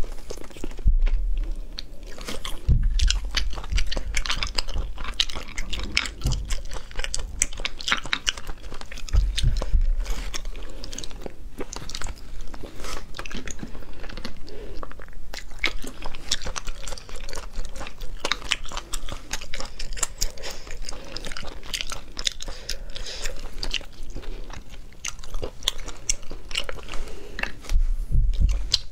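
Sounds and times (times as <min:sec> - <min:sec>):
wet sticky chewing: 0:00.0 - 0:28.9.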